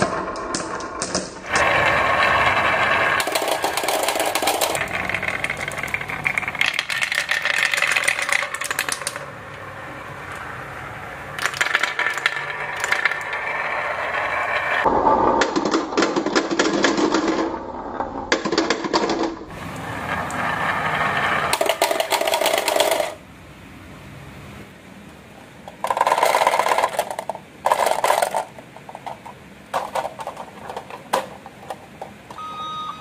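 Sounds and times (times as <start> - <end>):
marbles clattering down track: 0.0 - 23.2, 25.7 - 32.2.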